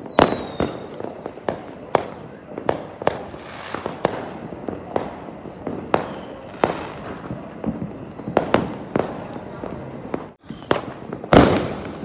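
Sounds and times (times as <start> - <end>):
fireworks bangs: 0.0 - 12.0
fireworks crackle: 0.0 - 12.0.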